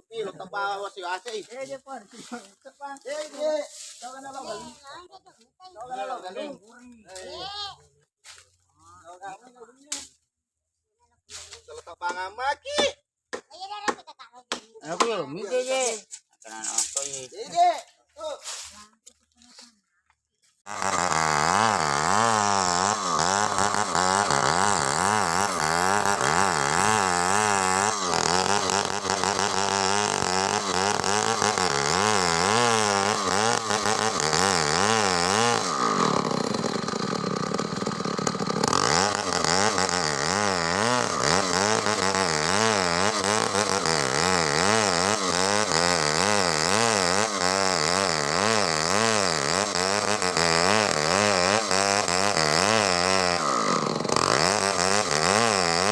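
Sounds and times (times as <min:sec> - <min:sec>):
chainsaw cutting wood: 0:01.2 - 0:07.5, 0:11.3 - 0:19.7, 0:20.6 - 0:55.9.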